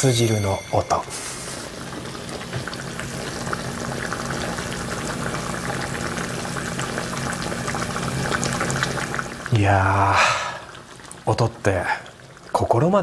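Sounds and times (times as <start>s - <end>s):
soup bubbling in a pot: 0.8s - 13.0s.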